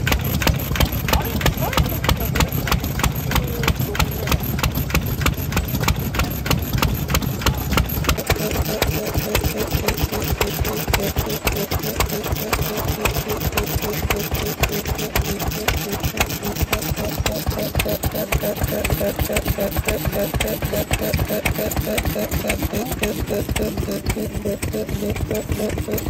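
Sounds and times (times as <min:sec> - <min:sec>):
stationary engines running: 0:00.0 - 0:26.0.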